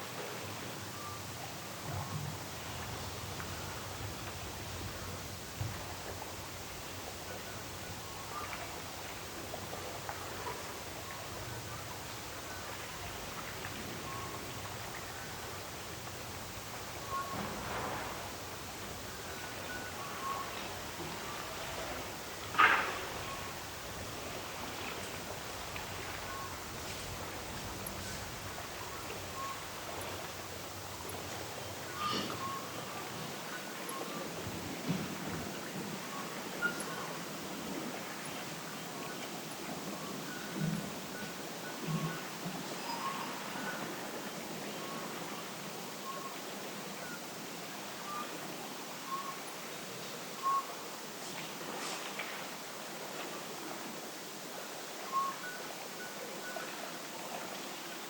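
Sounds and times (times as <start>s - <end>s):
wind: 0.0s - 58.0s.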